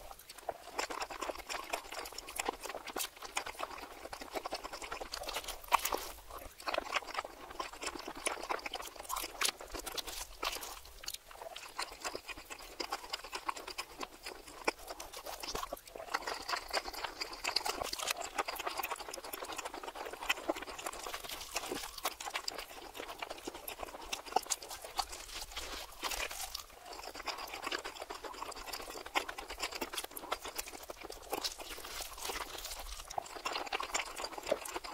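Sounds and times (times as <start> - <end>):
reversed chewing and crunching: 0.0 - 34.9.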